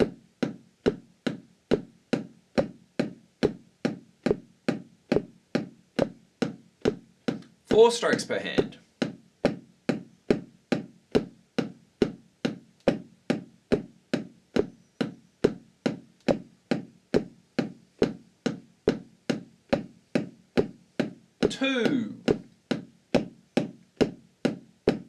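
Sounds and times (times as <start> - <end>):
drumsticks on practice pad: 0.0 - 25.0.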